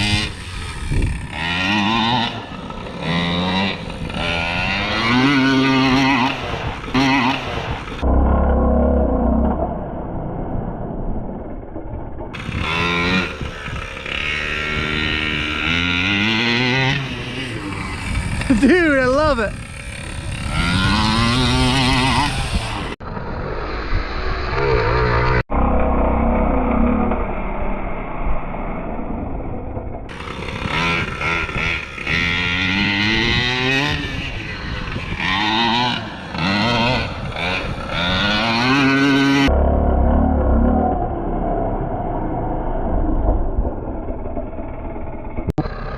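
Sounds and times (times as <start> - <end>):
two-stroke engine revving: 0.0 - 9.6, 12.4 - 27.3, 30.1 - 45.9.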